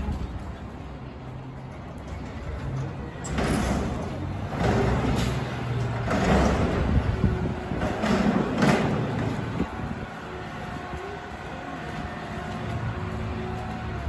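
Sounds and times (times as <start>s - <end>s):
garbage truck engine running: 0.2s - 14.0s.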